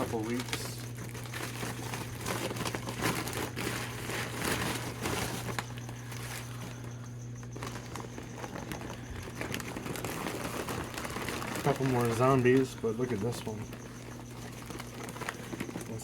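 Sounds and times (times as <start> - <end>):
plastic bag crinkling: 0.0 - 16.0
steady low hum: 0.0 - 16.0.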